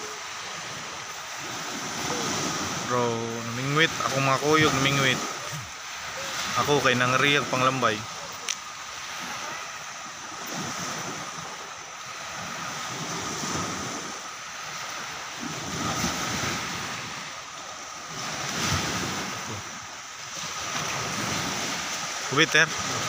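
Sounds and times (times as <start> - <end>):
sea surf washing in shallows: 0.0 - 23.0.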